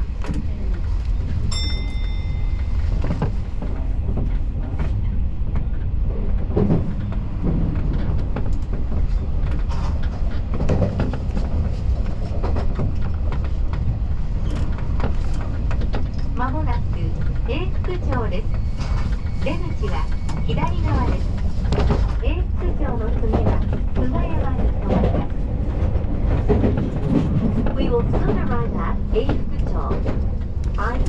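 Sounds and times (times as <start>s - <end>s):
train wheels rumbling: 0.0s - 31.0s
wheels clicking on rails: 0.0s - 31.0s.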